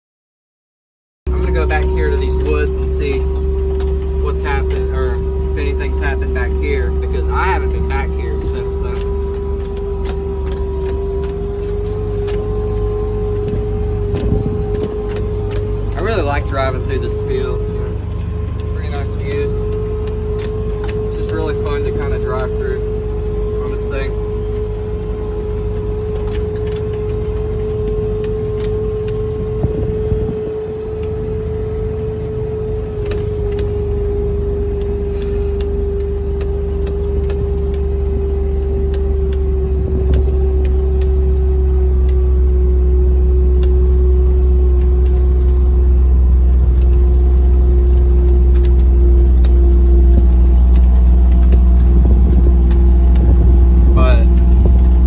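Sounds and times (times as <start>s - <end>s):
low rumble: 1.3s - 55.0s
rattles and clicks from bumps: 1.3s - 55.0s
vehicle motor whining: 1.3s - 55.0s.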